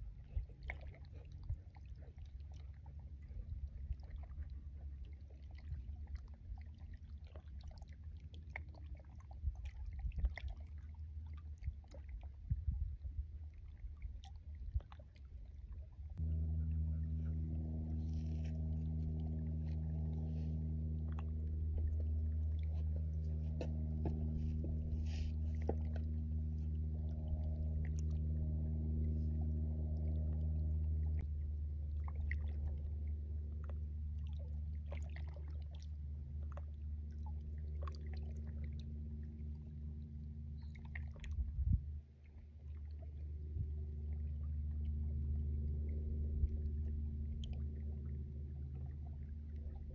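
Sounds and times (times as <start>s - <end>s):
low engine drone: 0.0s - 49.9s.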